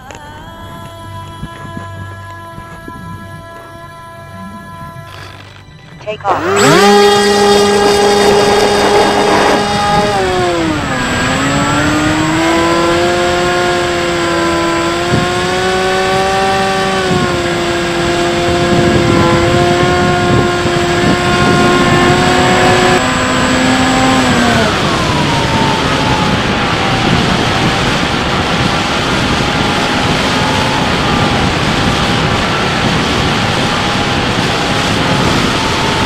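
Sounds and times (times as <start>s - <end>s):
electric motor and propeller whine: 0.0s - 36.0s
wind rush: 6.0s - 36.0s.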